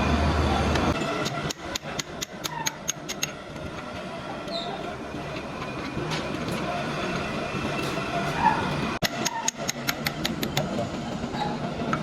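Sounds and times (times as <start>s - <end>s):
workshop background noise: 0.7s - 12.0s.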